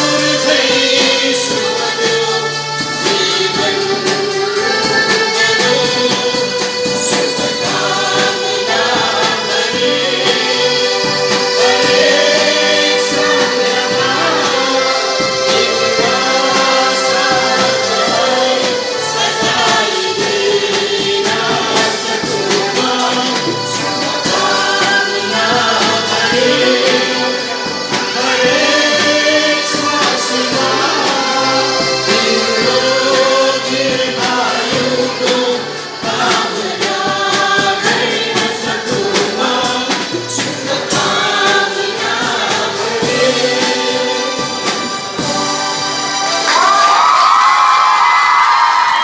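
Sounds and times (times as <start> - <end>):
group singing in chorus: 0.0 - 49.0.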